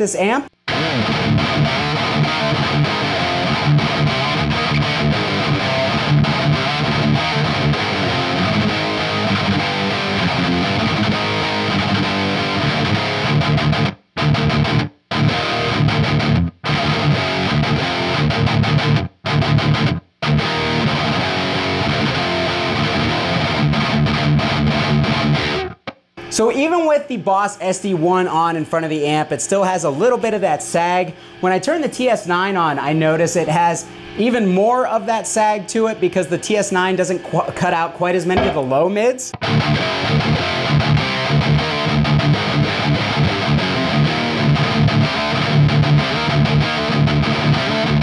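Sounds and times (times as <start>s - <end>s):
distorted electric guitar riffs: 0.0s - 48.0s.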